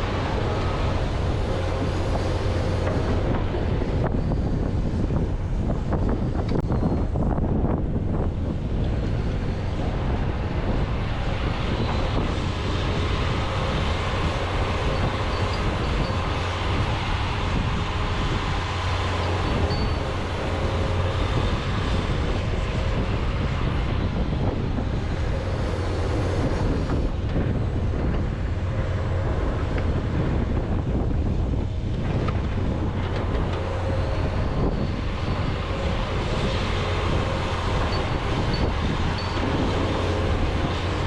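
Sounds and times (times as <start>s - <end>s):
excavator diesel engine running: 0.0s - 7.2s, 8.0s - 41.0s.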